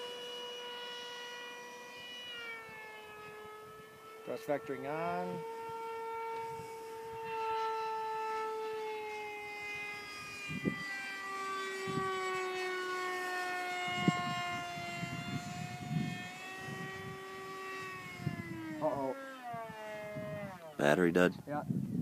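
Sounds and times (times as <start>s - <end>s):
model jet electric motor whining: 0.0s - 22.0s.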